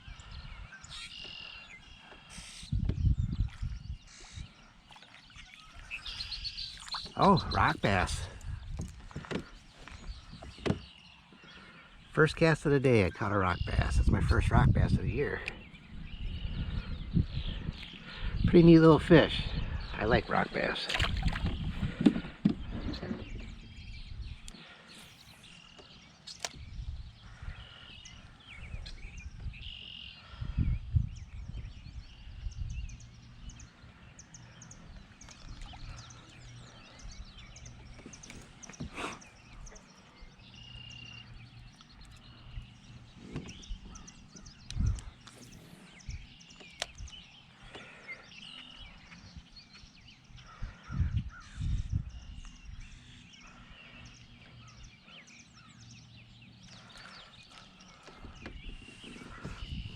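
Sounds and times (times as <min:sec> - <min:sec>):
wind rumbling on microphone: 0:00.0 - 0:11.0, 0:12.0 - 0:59.9
birds singing and chirping: 0:00.0 - 0:59.9.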